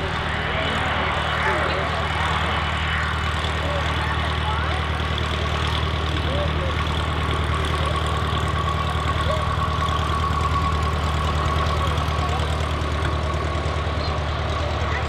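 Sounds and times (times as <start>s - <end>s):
jet engines at taxi power: 0.0s - 15.0s.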